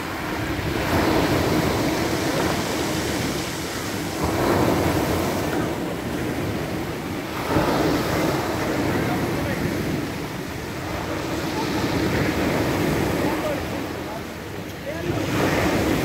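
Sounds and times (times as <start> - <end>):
waves crashing: 0.0 - 16.0.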